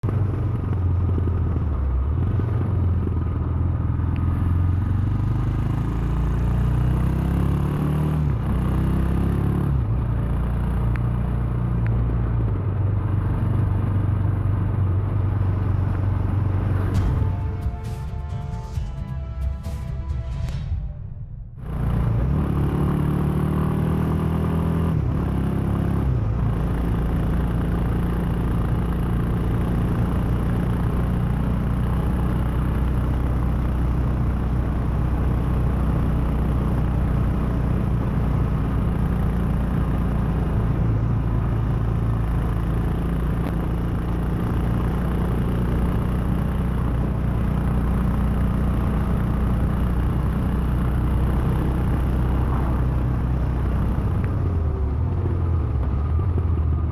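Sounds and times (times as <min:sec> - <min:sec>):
motorcycle engine running: 0:00.0 - 0:20.7, 0:21.6 - 0:56.9.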